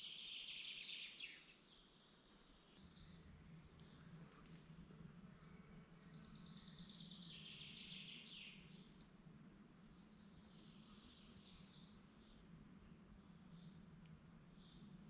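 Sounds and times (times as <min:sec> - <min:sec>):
songbird singing: 0:00.0 - 0:15.0
faint low hum: 0:01.5 - 0:15.0.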